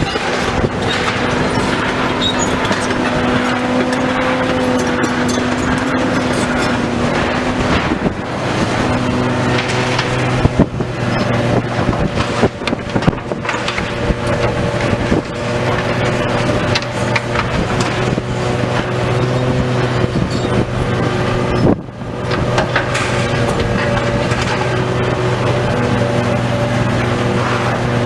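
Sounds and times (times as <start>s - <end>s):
heavy machine engine running: 0.0s - 28.0s.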